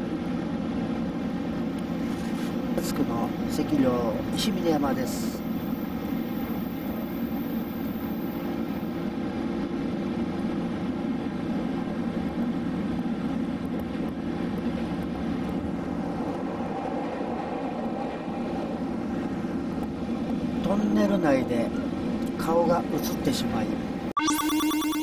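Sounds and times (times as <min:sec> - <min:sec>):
train rumbling: 0:00.0 - 0:24.1.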